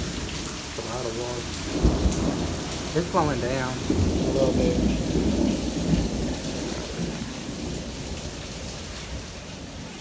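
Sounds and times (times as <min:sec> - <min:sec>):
low thunder rumble: 0:00.0 - 0:09.9
heavy rain pouring: 0:00.0 - 0:10.0.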